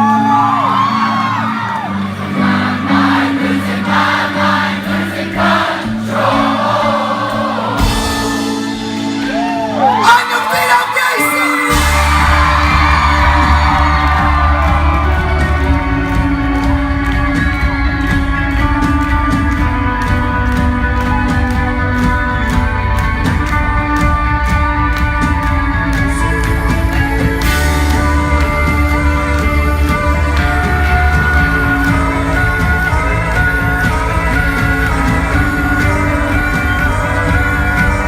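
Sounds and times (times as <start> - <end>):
crowd whooping: 0.0 - 4.8, 5.5 - 38.0
live rock band playing: 0.0 - 38.0.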